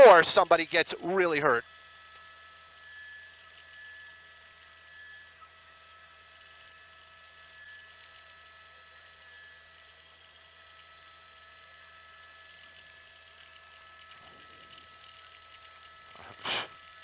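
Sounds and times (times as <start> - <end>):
constant whining tones: 0.0 - 17.0
faint steady hum: 0.0 - 17.0.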